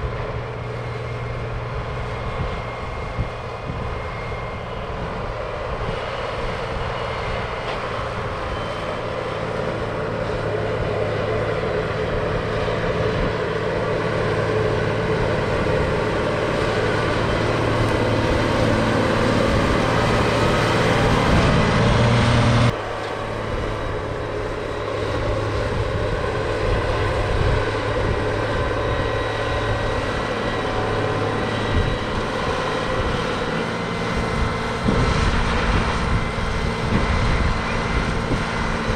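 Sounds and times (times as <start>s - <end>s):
diesel farm machinery running: 0.0s - 38.9s.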